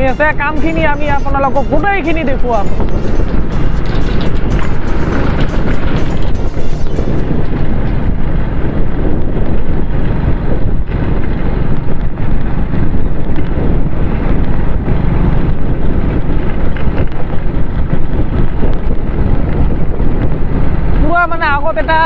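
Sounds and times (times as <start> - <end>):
motorcycle engine: 0.0 - 22.0
tyre noise on dirt road: 0.0 - 22.0
wind rushing over microphone: 0.0 - 22.0.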